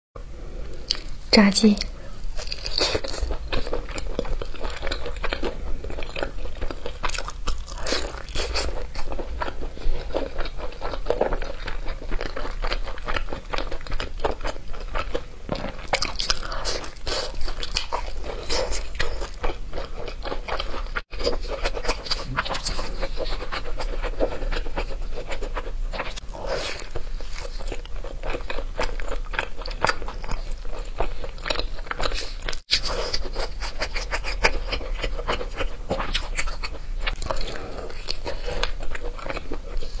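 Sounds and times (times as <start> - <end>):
crunching and chewing fried chicken: 2.0 - 40.0.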